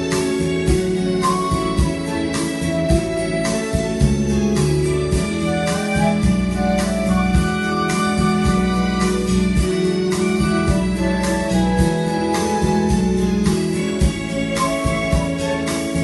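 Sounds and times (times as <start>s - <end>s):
instrumental music with steady beat: 0.0s - 16.0s.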